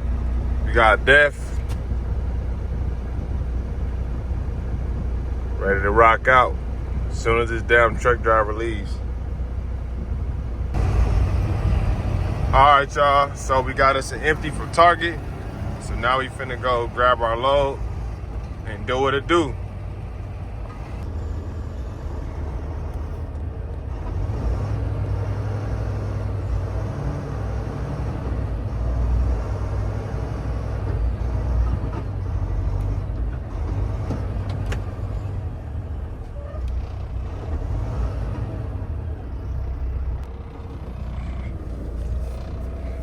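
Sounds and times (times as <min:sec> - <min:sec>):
diesel truck engine running: 0:00.0 - 0:43.0.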